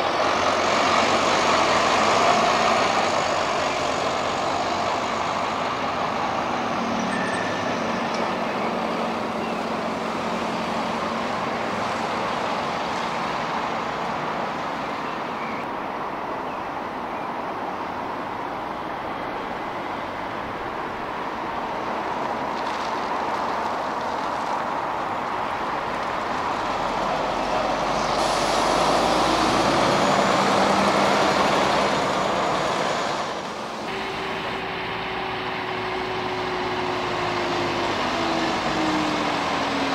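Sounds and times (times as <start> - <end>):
bus engine hum: 0.0 - 39.9
bus passing close: 0.0 - 39.9
traffic noise: 0.0 - 39.9.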